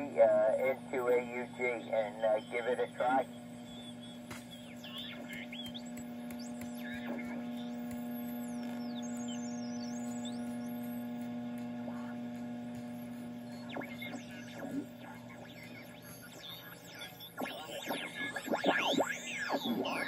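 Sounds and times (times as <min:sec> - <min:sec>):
radio receiver mains hum: 0:00.0 - 0:20.0.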